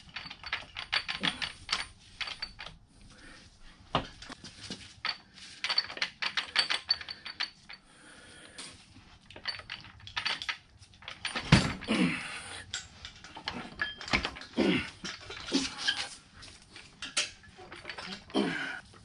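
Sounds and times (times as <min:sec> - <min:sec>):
metal clinking and rattling: 0:00.0 - 0:02.9, 0:03.9 - 0:07.9, 0:08.6 - 0:19.0.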